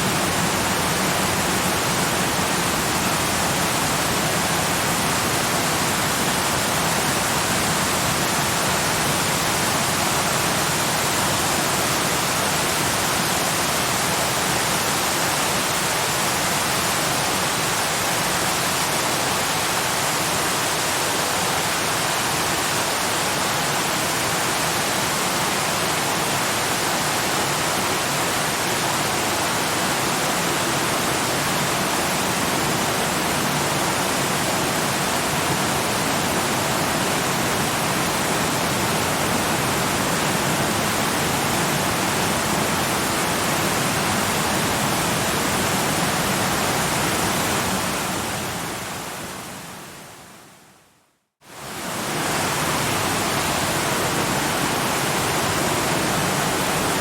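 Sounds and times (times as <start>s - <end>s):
waterfall rushing: 0.0s - 50.0s, 51.5s - 57.0s.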